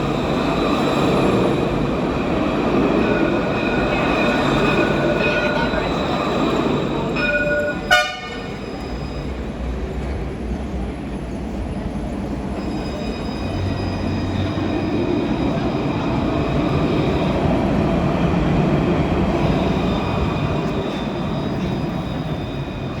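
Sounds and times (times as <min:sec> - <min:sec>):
tram rumble: 0:00.0 - 0:23.0
tram warning bell ringing: 0:00.0 - 0:23.0.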